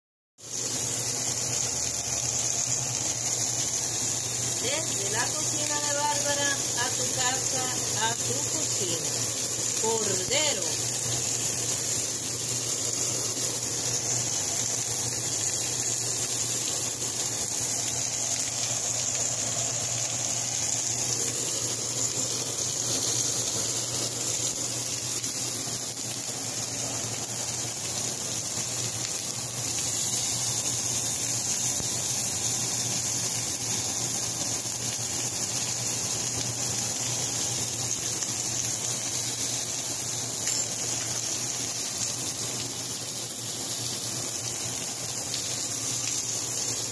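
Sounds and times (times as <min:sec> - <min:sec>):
meat sizzling in a skillet: 0:00.4 - 0:46.9.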